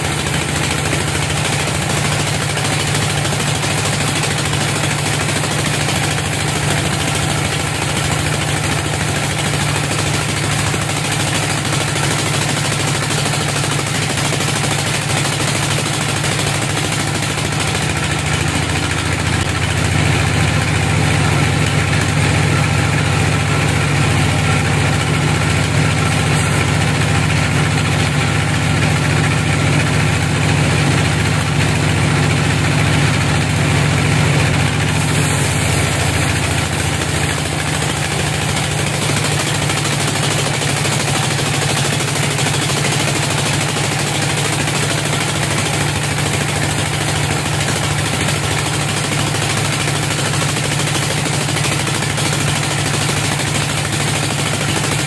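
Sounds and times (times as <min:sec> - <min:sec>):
band sawmill sawing log: 0:00.0 - 0:55.0.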